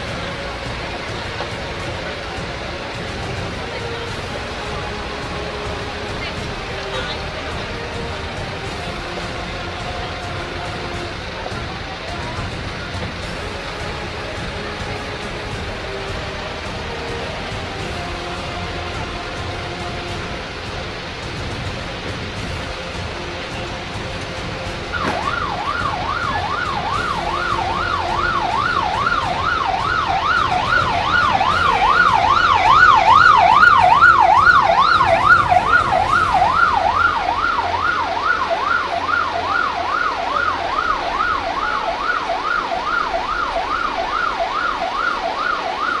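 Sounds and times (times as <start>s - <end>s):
emergency siren yelping: 0.0s - 46.0s.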